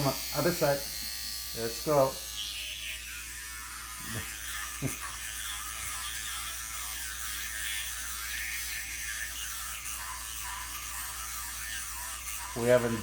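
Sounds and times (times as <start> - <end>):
electric toothbrush buzzing: 0.0 - 13.0.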